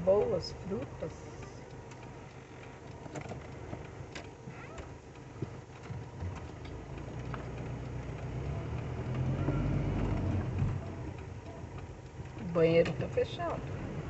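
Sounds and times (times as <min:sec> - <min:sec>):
engine and road noise: 0:00.0 - 0:14.0
light ticks: 0:00.0 - 0:14.0.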